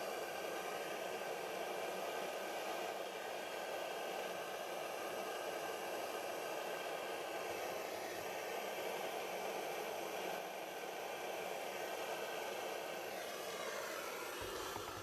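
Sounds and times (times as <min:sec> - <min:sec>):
blow lamp flame hissing: 0:00.0 - 0:15.0.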